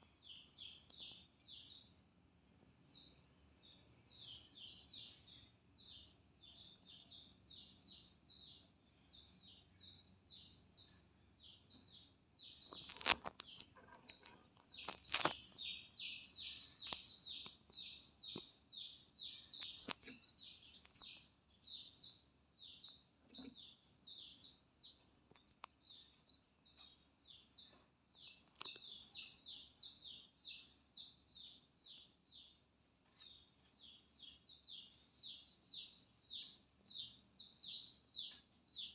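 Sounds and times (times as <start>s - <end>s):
chick peeping: 0.0s - 1.9s, 2.9s - 38.9s.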